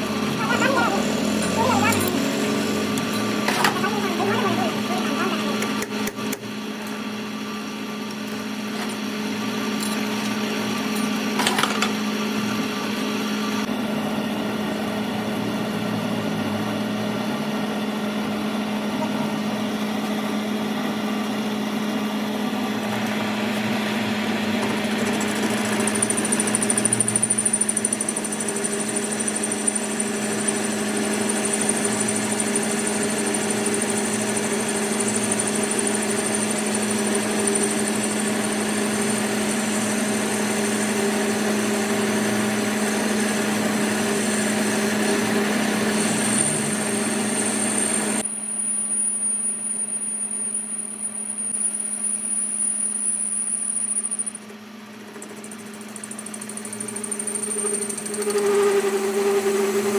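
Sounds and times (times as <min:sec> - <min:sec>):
machine tool motor humming and whining: 0:00.0 - 0:59.9.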